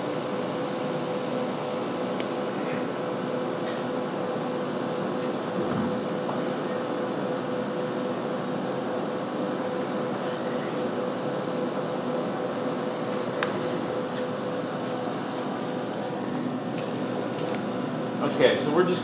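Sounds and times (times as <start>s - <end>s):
machine hum with high whines: 0.0s - 19.0s.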